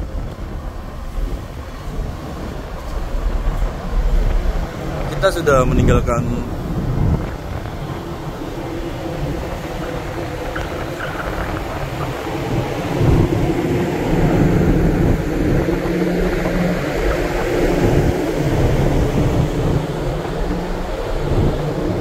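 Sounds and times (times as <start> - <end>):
ship engine drone: 0.0 - 22.0
wind rumbling on microphone: 0.0 - 22.0.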